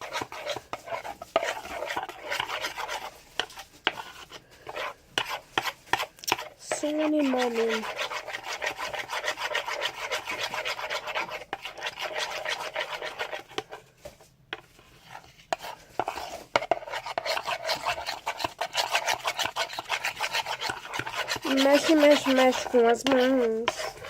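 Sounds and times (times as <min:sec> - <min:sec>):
spoon scraping a bowl: 0:00.0 - 0:24.0.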